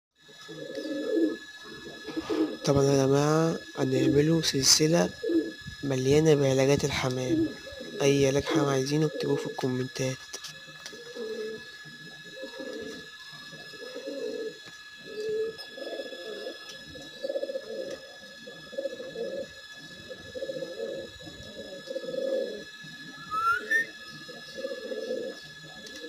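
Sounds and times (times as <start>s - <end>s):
pigeon cooing: 0.3s - 9.8s, 10.5s - 26.0s.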